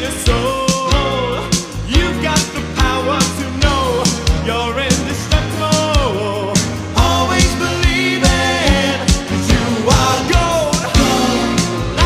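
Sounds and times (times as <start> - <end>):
pop-rock song with vocals: 0.0 - 12.0.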